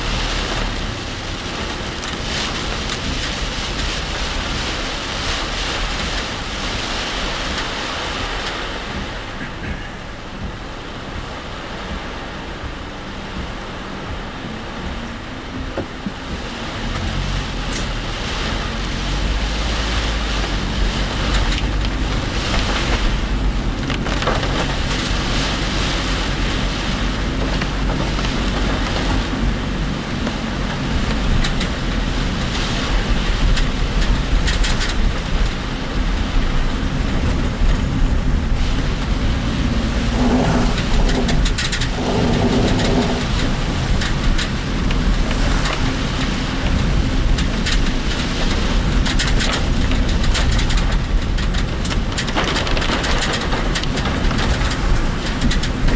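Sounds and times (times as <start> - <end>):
car road and engine noise: 0.0 - 55.9
heavy rain on a car: 0.0 - 55.9
tyres on a wet road: 0.0 - 55.9
wind: 0.0 - 55.9.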